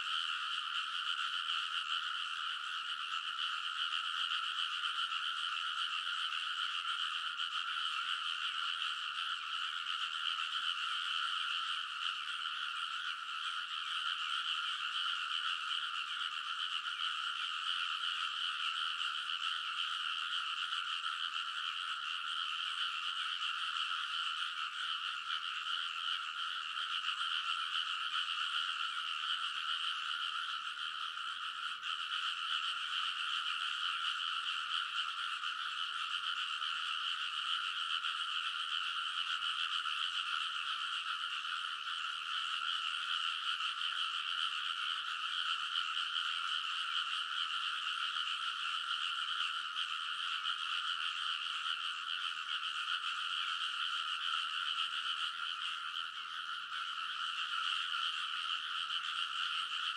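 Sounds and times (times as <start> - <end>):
chorus of frogs calling: 0.0 - 59.9.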